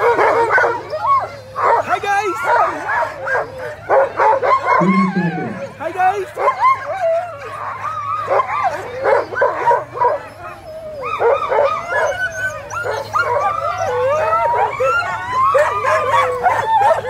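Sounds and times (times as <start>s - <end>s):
sled dogs barking and howling: 0.0s - 17.0s.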